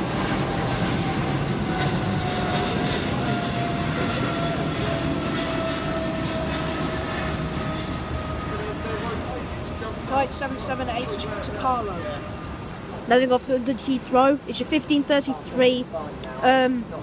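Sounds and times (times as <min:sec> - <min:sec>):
jet engine roar with whine: 0:00.0 - 0:17.0.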